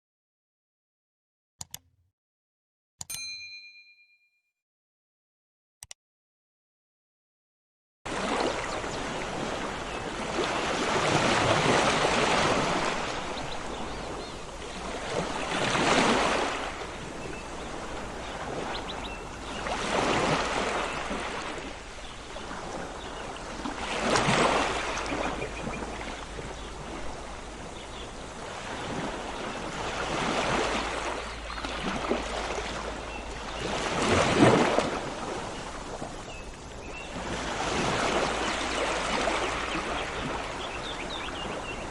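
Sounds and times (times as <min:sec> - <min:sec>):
sea waves breaking on shore: 0:08.1 - 0:41.9.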